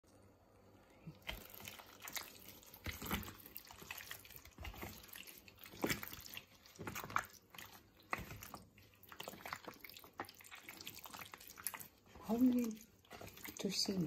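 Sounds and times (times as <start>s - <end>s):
wet squelching of marinated meat: 1.0s - 14.0s.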